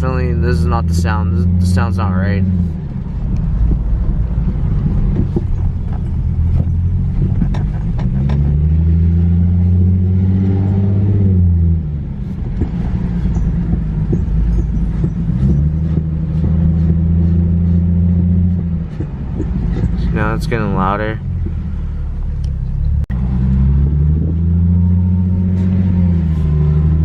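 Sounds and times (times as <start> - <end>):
car low drone: 0.0 - 27.0.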